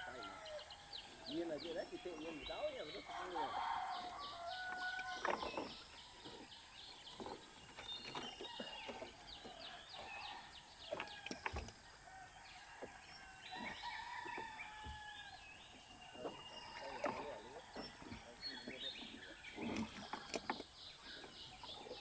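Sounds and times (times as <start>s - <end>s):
birds chirping and whistling: 0.0s - 11.8s, 13.0s - 22.0s.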